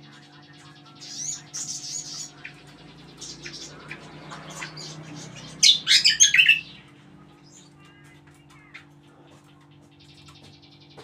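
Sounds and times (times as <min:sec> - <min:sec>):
songbird singing: 0:00.0 - 0:11.0
steady low hum: 0:00.0 - 0:11.0.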